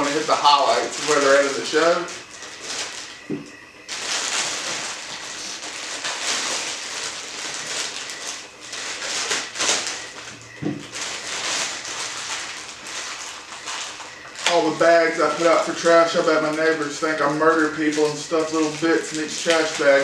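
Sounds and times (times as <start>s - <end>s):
plastic bag crinkling: 0.0s - 3.2s, 3.9s - 20.0s.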